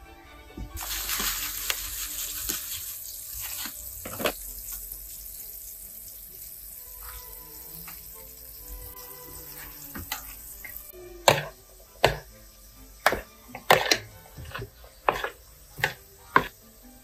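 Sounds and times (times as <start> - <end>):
soft background music: 0.0 - 17.0
chicken frying in oil: 0.8 - 17.0.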